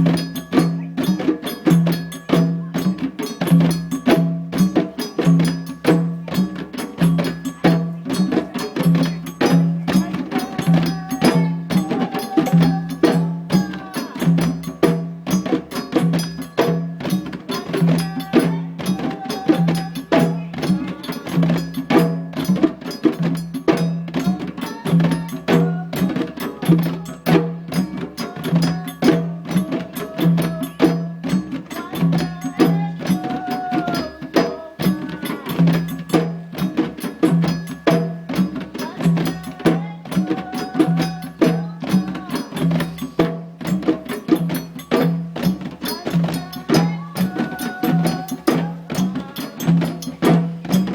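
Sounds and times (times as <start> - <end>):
djembe drumming: 0.0 - 50.9.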